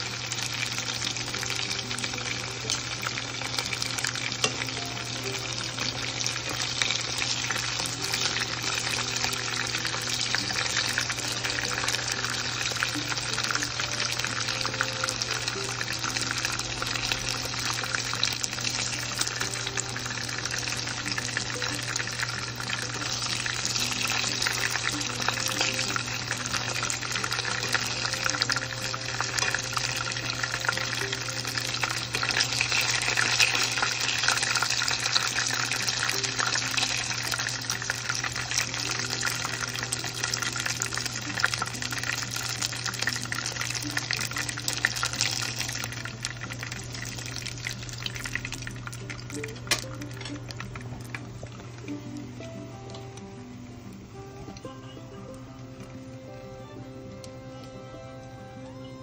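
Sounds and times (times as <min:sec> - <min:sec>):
chicken frying in hot oil: 0:00.0 - 0:52.8
soft background music: 0:00.0 - 0:59.0.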